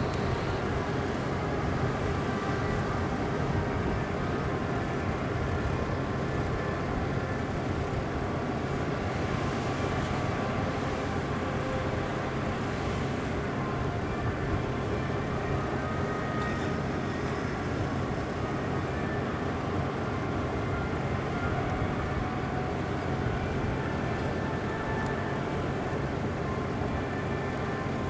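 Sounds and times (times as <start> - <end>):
aircraft engines running: 0.0 - 28.0
faint high whine: 0.0 - 28.0.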